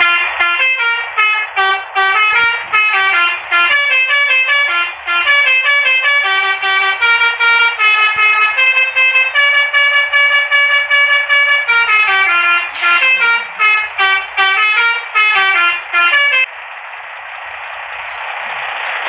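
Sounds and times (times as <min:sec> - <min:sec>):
bus air horn melody: 0:00.0 - 0:16.5.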